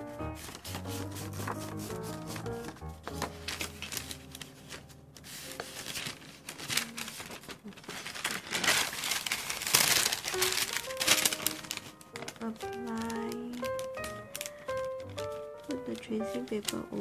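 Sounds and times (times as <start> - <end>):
soft background music: 0.0 - 7.6, 8.2 - 17.0
paper rustling and crinkling: 0.0 - 17.0.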